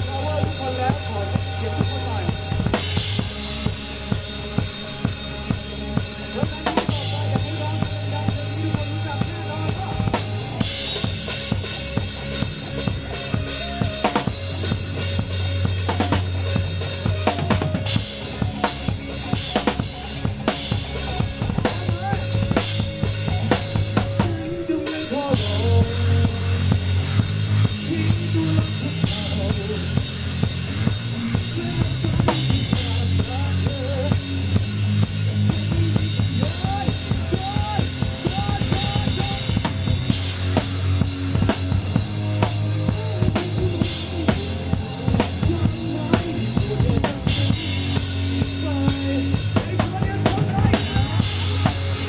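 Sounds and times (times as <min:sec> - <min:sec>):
guitars: 0:00.0 - 0:52.0
live band playing: 0:00.0 - 0:52.0.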